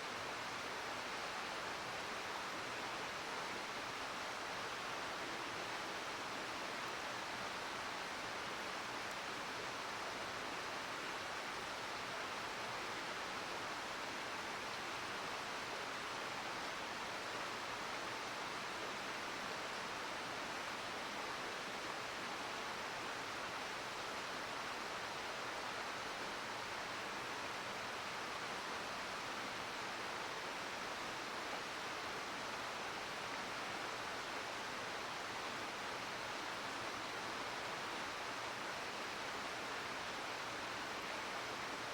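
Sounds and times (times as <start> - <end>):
mountain stream flowing: 0.0 - 41.9.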